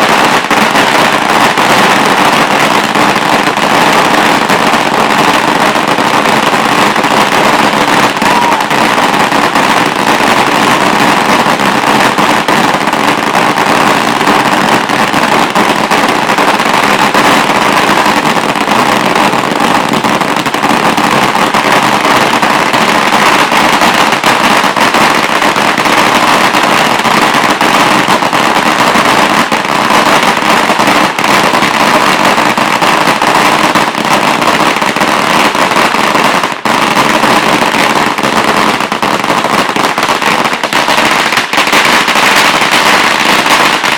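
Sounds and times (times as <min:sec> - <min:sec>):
firecracker string crackling: 0:00.0 - 0:43.9.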